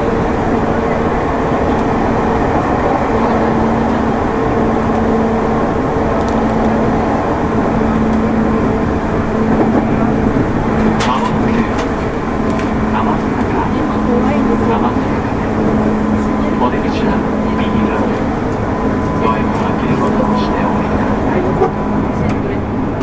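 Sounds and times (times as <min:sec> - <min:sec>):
constant hum: 0:00.0 - 0:23.0
train wheels rumbling on rail: 0:00.0 - 0:23.0.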